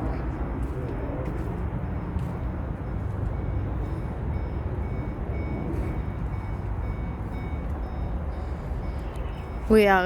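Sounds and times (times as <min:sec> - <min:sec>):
steady low rumble: 0:00.0 - 0:10.0
reversing alarm beeping: 0:01.6 - 0:10.0.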